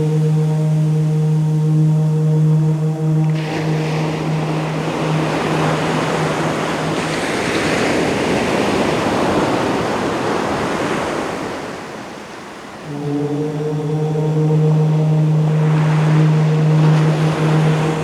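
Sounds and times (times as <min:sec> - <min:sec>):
low chanted om: 0:00.0 - 0:12.0, 0:12.6 - 0:18.0
ocean waves: 0:00.0 - 0:18.0.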